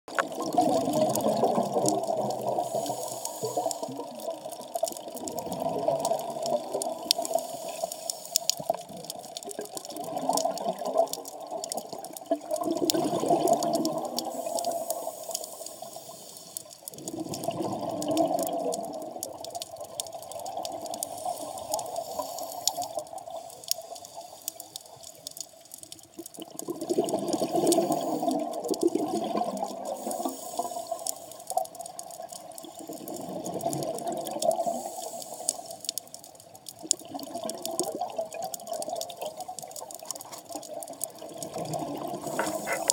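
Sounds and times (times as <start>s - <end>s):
crackle of fine clicks: 0.1s - 42.9s
exhaled bubbles gurgling underwater: 0.1s - 42.9s.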